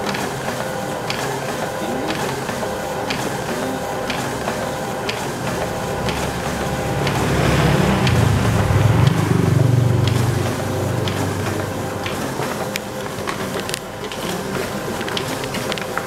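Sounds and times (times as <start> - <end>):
document feeder running: 0.0 - 16.0.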